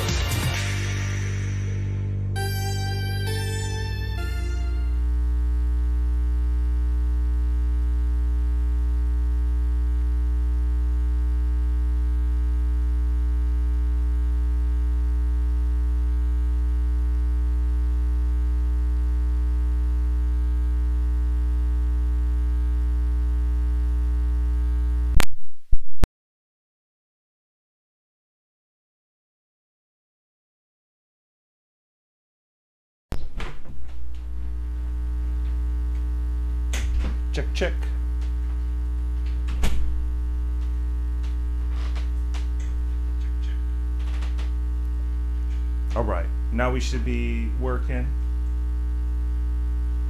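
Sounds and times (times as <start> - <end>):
loud electrical hum: 0.0 - 25.3, 33.2 - 50.0.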